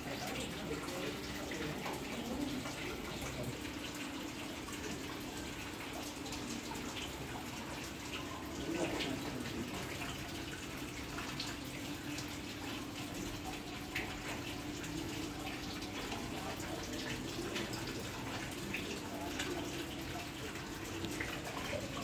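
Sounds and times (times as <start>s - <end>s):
small water drips: 0.0s - 22.0s
water trickling: 0.0s - 22.0s.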